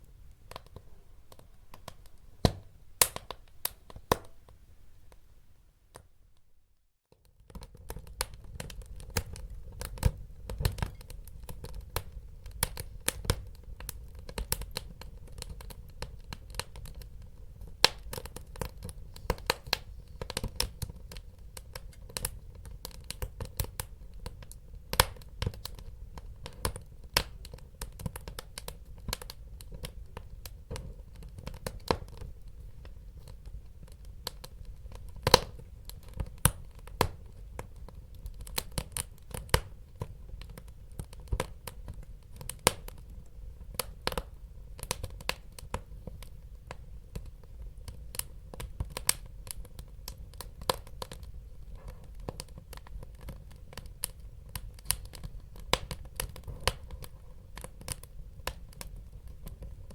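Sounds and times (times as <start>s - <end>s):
wood fire crackling in fireplace: 0.0s - 5.3s, 7.1s - 59.9s.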